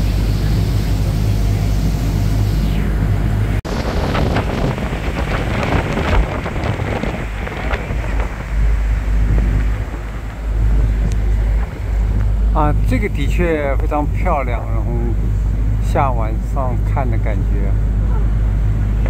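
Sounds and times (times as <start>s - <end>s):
boat engine drone: 0.0s - 19.0s
wind buffeting microphone: 0.0s - 19.0s.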